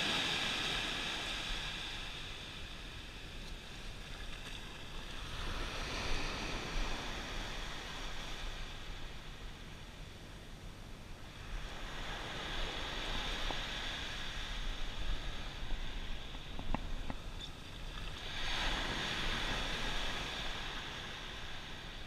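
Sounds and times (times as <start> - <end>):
surf waves washing on sand: 0.0 - 10.1, 11.2 - 22.0
wind rumble on microphone: 0.0 - 22.0.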